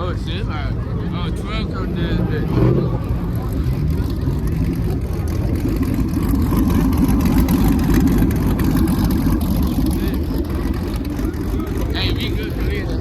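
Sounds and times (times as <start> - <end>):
car exhaust rumble: 0.0 - 13.0.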